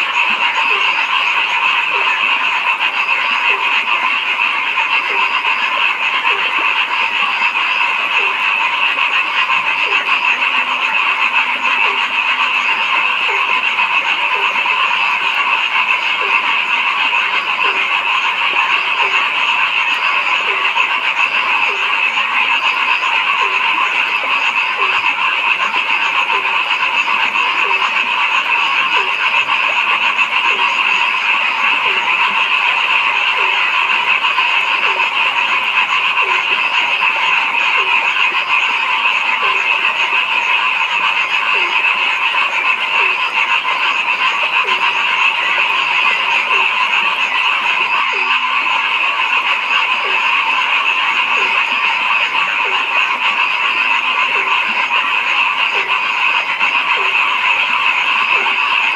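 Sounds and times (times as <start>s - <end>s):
chorus of frogs calling: 0.0s - 58.9s
deep frog croak: 0.0s - 58.9s.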